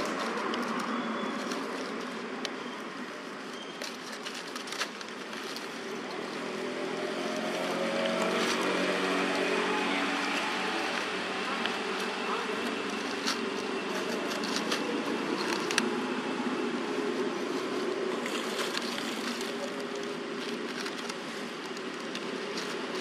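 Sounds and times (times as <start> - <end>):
dry leaves crackling: 0.0 - 23.0.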